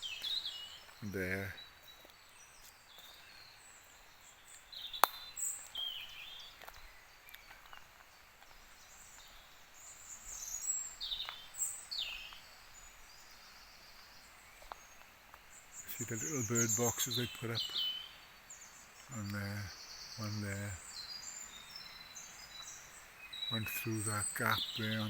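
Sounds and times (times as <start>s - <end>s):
birds chirping: 0.0s - 25.0s
faint steady hiss: 0.0s - 25.0s.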